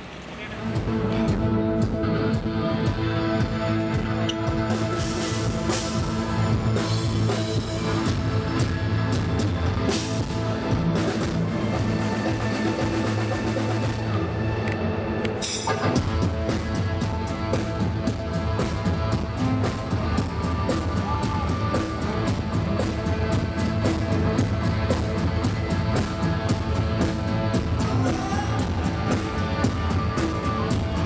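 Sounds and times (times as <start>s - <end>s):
rock band playing: 0.5s - 31.0s
steady drum beat: 0.8s - 14.2s, 15.4s - 31.0s.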